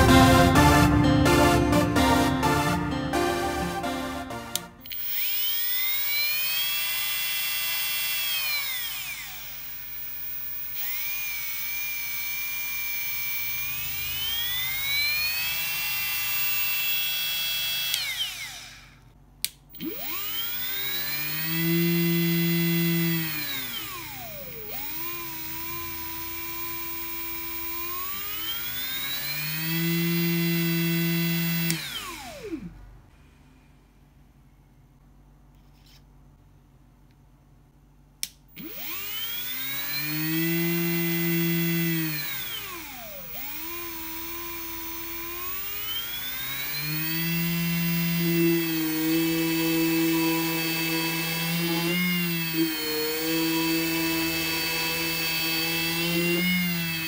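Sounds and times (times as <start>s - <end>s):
die grinder motor whining: 4.5s - 32.8s, 38.5s - 57.0s.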